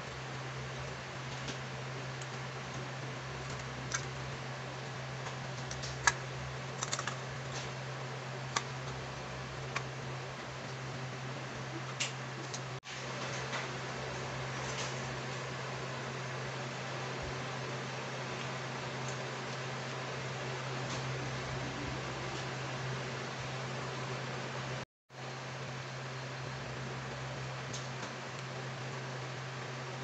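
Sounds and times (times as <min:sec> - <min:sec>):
low hum and hiss: 0:00.0 - 0:30.0.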